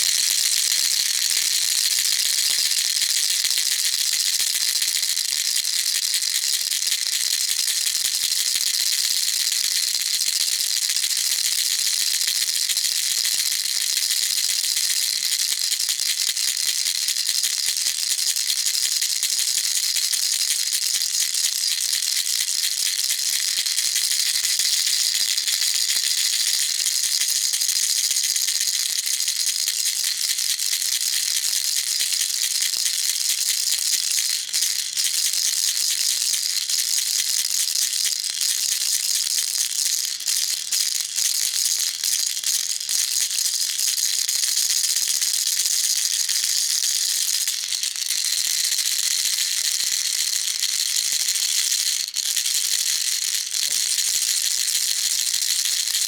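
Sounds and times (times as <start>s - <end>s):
baby rattle shaken: 0.0s - 17.4s, 20.5s - 56.0s.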